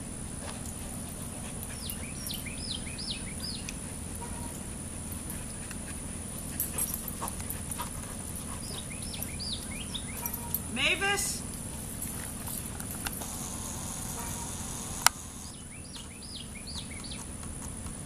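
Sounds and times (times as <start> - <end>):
dogs panting: 0.2 - 10.7, 11.4 - 18.0.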